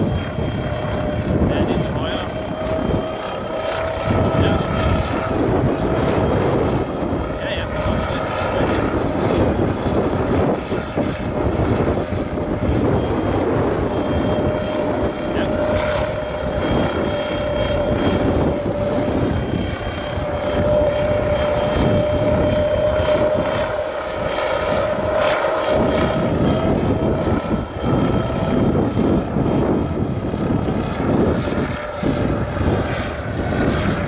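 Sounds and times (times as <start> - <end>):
drone propellers humming: 0.0 - 34.0
low rumble: 0.0 - 34.0.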